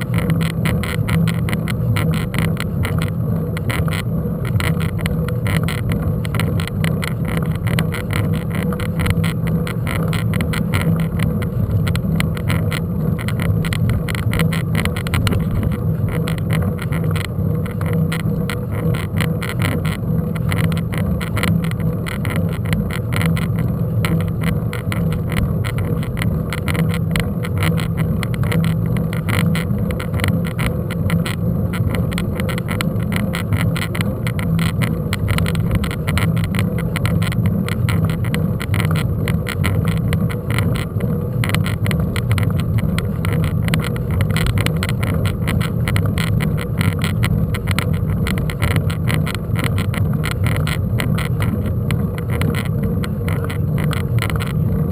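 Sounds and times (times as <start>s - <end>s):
vehicle rumble on rough track: 0.0s - 54.9s.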